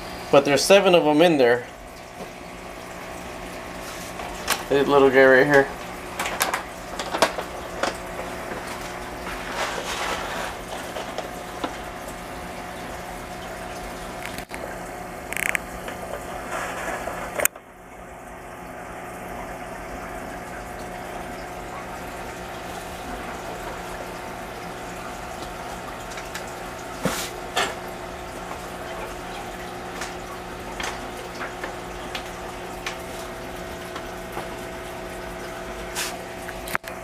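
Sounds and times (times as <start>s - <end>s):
electrical hum: 0.0s - 37.0s
water trickling and splashing: 0.1s - 37.0s.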